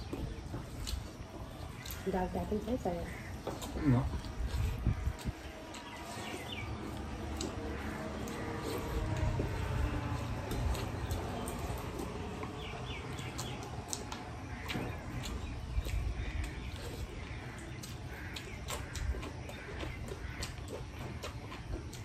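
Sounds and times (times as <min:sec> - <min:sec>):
chewing and lip smacks: 0:00.0 - 0:02.1, 0:03.1 - 0:22.0
fingers working food on metal plates: 0:00.0 - 0:22.0.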